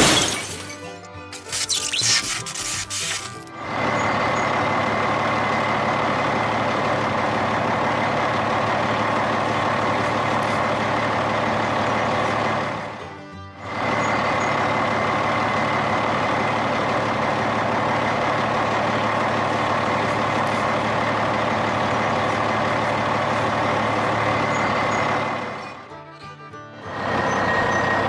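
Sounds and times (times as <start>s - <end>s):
truck engine running: 0.0s - 0.8s, 2.2s - 28.0s.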